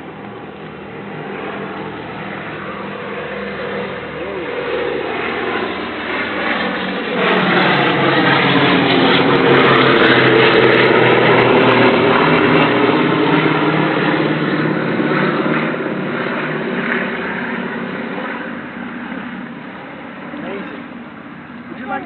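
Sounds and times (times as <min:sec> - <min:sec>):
propeller aircraft engines drone: 0:00.0 - 0:22.0.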